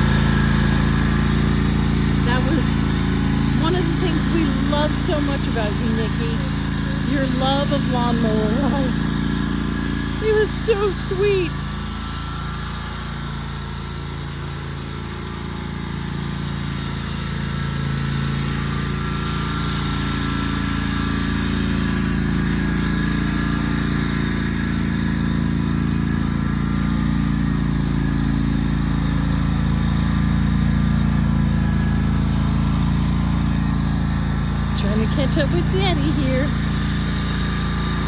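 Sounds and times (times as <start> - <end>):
lawnmower engine running: 0.0 - 38.0.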